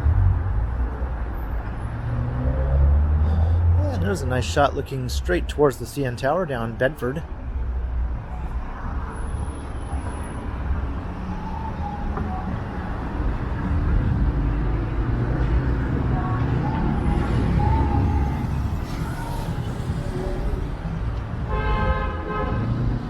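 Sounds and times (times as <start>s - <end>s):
passing cars rumbling: 0.0s - 23.0s.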